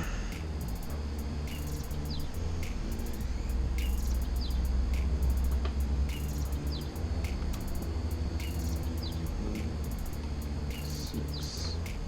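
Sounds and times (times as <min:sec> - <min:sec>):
rapid insect-like clicking: 0:00.0 - 0:12.0
small birds chirping: 0:00.0 - 0:12.0
steady low hum: 0:00.0 - 0:12.0.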